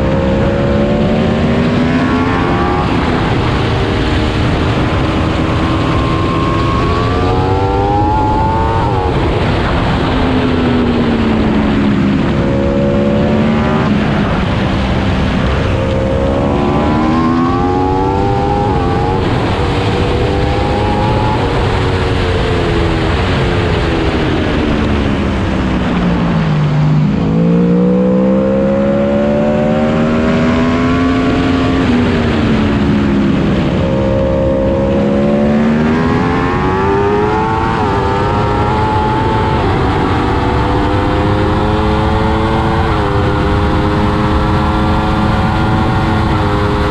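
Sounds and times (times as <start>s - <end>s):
motorcycle engine revving: 0.0s - 46.9s
wind noise: 0.0s - 46.9s.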